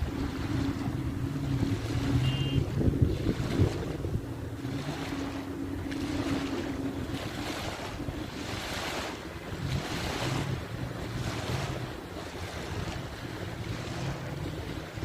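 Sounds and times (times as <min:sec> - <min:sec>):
low steady hum: 0:00.0 - 0:15.0
waves breaking on beach: 0:00.0 - 0:15.0
wind buffeting microphone: 0:00.0 - 0:15.0.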